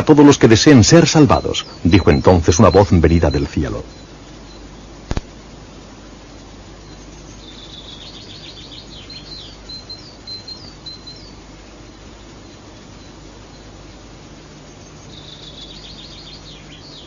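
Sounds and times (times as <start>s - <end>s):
songbird chirping and trilling: 0.0s - 17.0s
steady background hiss: 0.0s - 17.0s.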